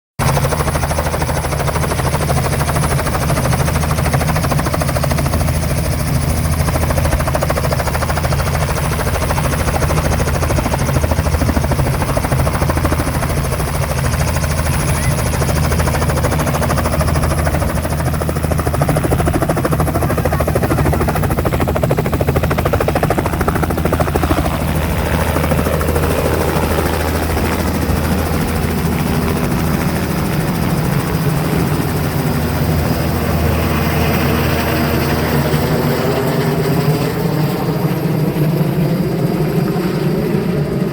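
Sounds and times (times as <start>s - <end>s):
helicopter rotor throbbing: 0.2s - 40.9s.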